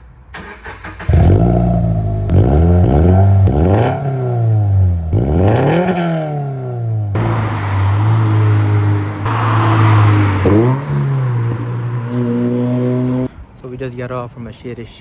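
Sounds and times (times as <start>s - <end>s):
car engine revving and idling: 0.9s - 13.3s.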